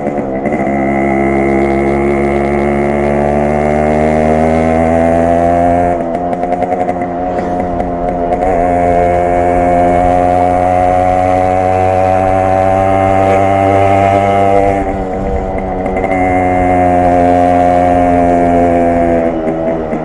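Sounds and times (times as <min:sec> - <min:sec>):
two-stroke motorcycle engine running: 0:00.0 - 0:20.0.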